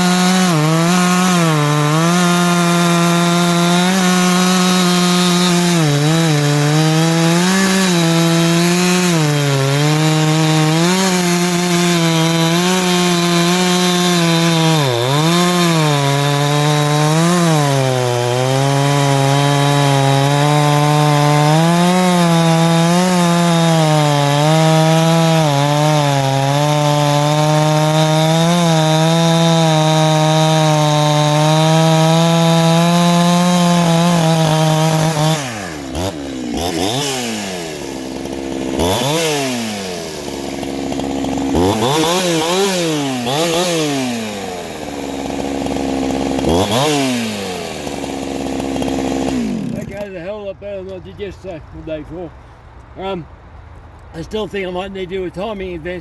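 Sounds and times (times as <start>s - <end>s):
chainsaw cutting wood: 0.0s - 52.0s.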